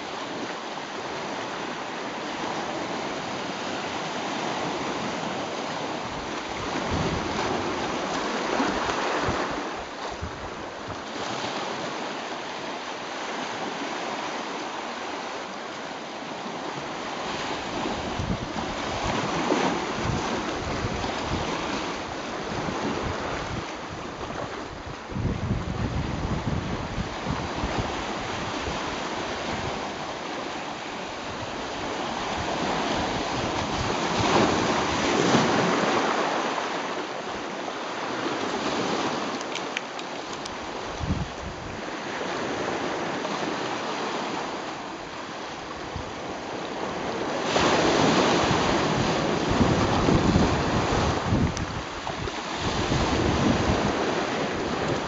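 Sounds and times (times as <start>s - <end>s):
waves washing over rocks: 0.0s - 55.0s
wind rumbling on microphone: 2.4s - 12.2s, 16.7s - 39.6s, 40.3s - 44.6s, 45.3s - 55.0s.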